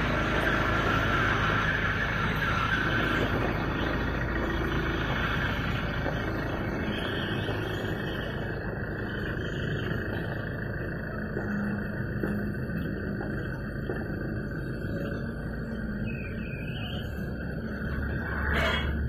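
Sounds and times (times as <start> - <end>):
blade squealing: 0.0 - 19.0
tyre cutter machine running: 0.0 - 19.0.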